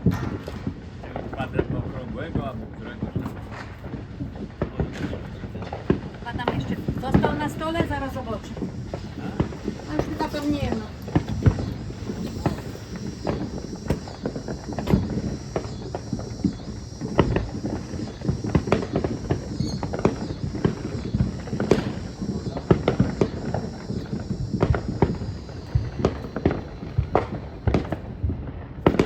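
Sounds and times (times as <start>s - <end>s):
fireworks popping and banging: 0.0s - 29.0s.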